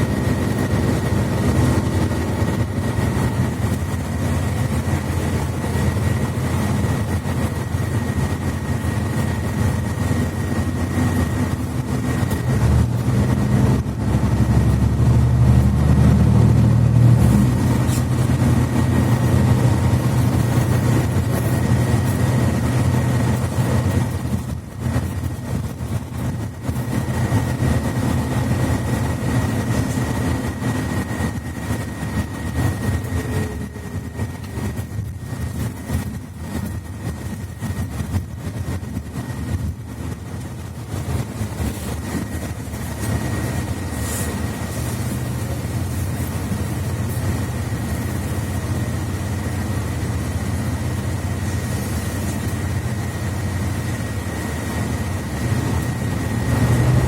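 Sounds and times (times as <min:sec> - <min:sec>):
bus engine rumble: 0:00.0 - 0:57.0
high whine: 0:00.0 - 0:57.0
road noise: 0:00.0 - 0:57.0.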